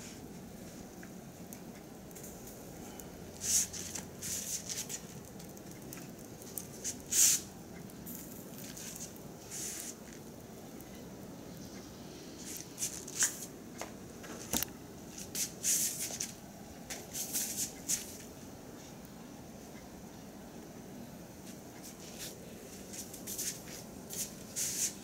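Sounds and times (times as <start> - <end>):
charcoal crackles and sizzling pops: 0.0 - 25.0.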